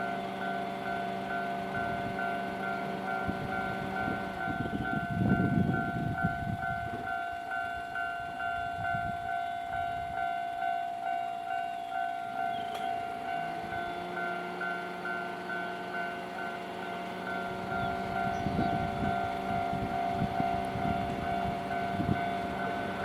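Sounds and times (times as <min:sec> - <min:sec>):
train wheels rumbling: 0:00.0 - 0:23.0.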